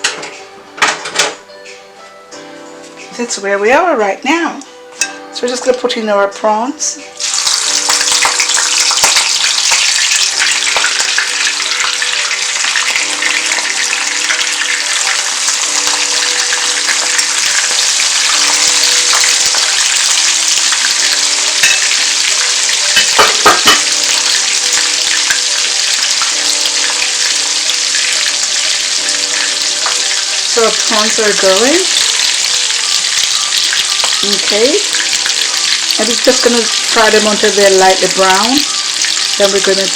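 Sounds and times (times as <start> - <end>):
prawns sizzling in hot oil: 6.8 - 39.9.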